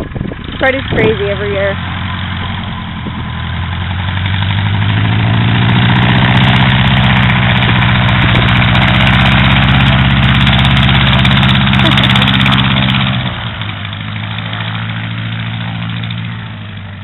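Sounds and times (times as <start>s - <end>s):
propeller plane engine: 0.0s - 17.0s.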